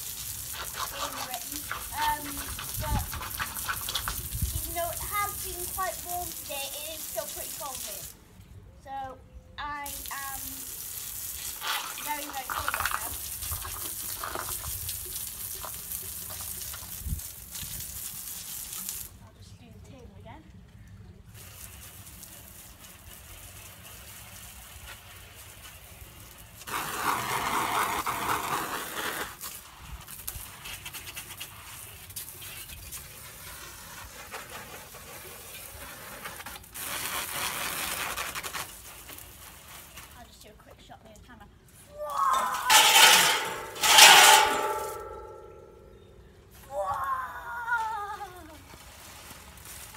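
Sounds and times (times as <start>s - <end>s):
hose spraying water on patio: 0.0s - 49.9s.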